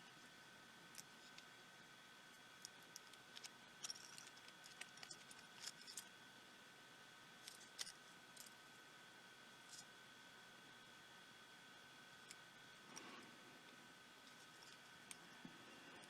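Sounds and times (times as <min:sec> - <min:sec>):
faint high-pitched hum: 0:00.0 - 0:16.0.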